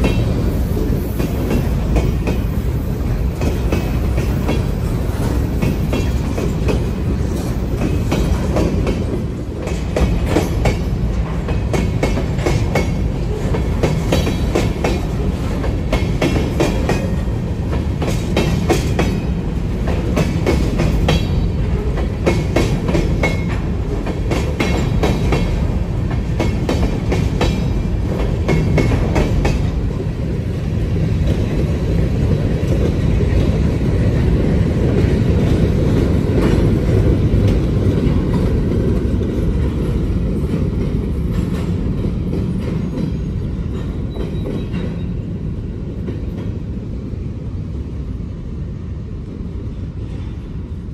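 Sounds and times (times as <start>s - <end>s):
freight train rumbling: 0.0s - 50.9s.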